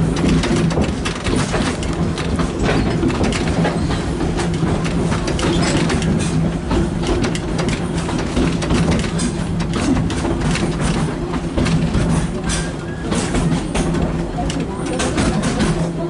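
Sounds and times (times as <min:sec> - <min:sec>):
low train hum: 0:00.0 - 0:16.0
train clattering on track: 0:00.0 - 0:16.0.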